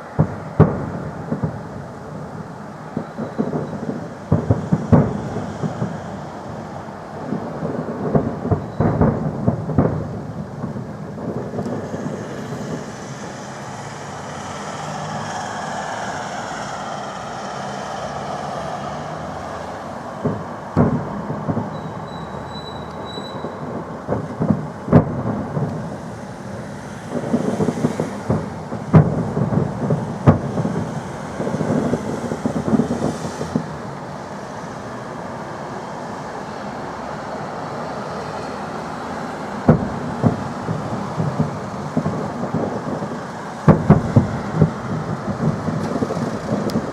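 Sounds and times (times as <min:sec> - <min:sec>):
fireworks bangs: 0:00.0 - 0:46.9.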